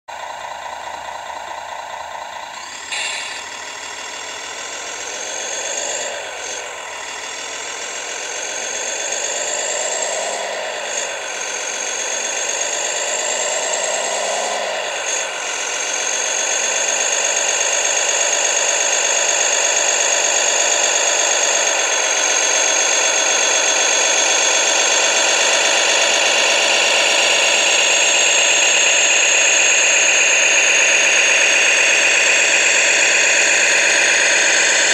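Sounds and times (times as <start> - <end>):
toy truck motor revving: 0.1 - 34.9.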